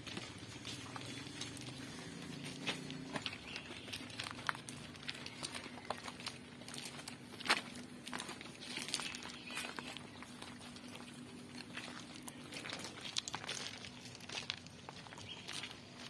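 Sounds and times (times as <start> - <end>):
footsteps crunching on ballast: 0.0 - 16.0.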